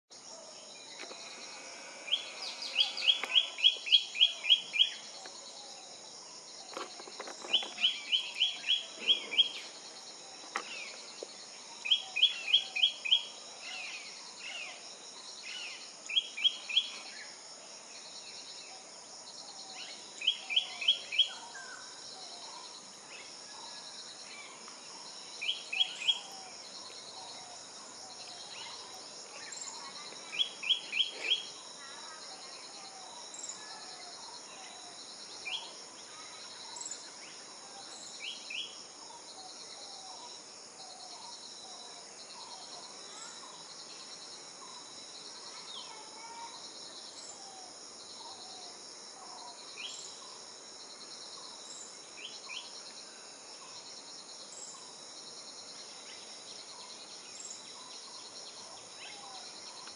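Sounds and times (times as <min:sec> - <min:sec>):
high insect drone: 0:00.1 - 0:59.9.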